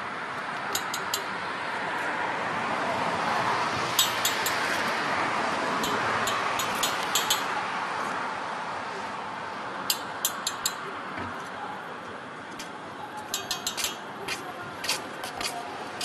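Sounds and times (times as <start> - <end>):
road vehicle passing: 0.0 - 16.0.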